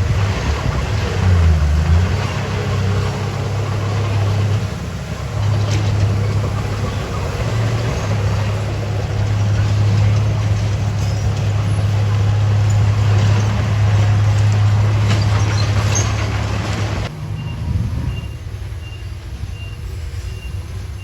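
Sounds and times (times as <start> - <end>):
bulldozer diesel engine droning: 0.0 - 21.0.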